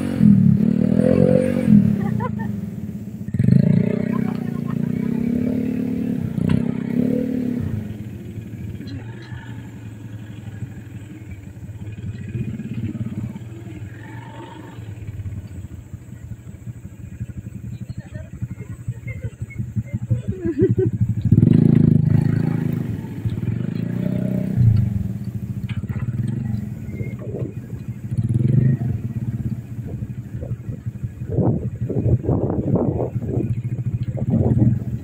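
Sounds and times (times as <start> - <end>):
small motorcycle engine revving: 0.0 - 35.0.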